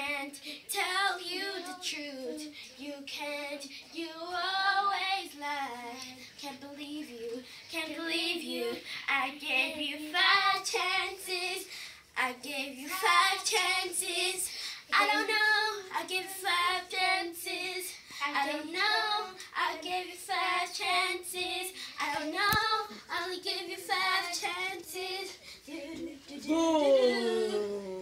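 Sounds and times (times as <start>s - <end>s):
girls singing unaccompanied: 0.0s - 26.5s.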